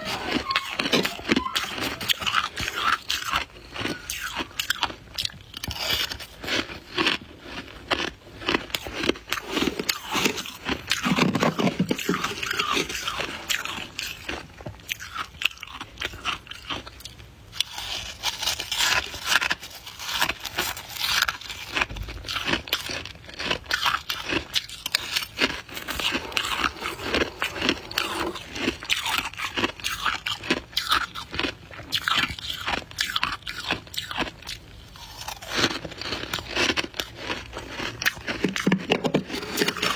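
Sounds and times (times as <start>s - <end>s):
ice being chewed: 0.2s - 39.9s.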